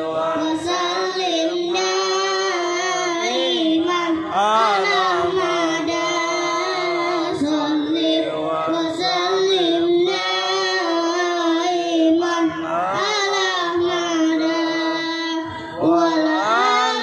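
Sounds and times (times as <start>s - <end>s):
boy singing into microphone: 0.0s - 17.0s.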